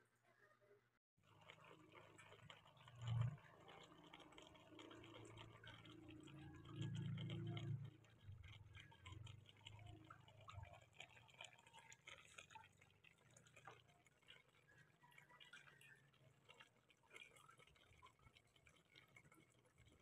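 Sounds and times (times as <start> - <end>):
pot simmering with small pops: 1.2 - 20.0.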